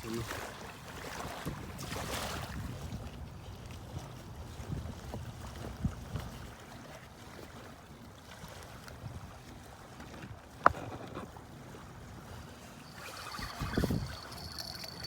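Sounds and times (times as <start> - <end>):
water: 0.0 - 15.0
wind: 0.0 - 15.0.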